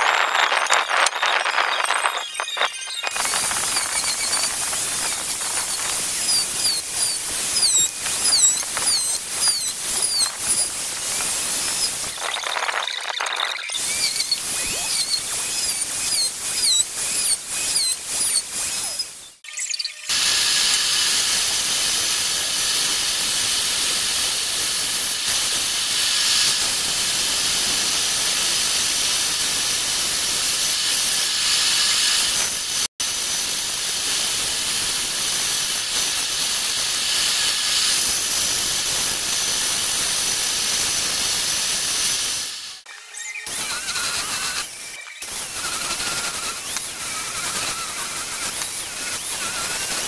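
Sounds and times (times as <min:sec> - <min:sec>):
band saw cutting wood: 0:02.4 - 0:12.4, 0:13.7 - 0:50.0.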